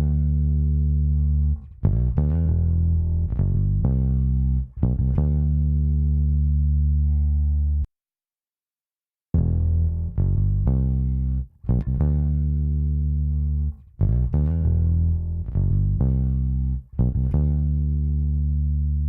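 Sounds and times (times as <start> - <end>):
electric bass guitar notes: 0.0 - 7.9, 9.4 - 19.0.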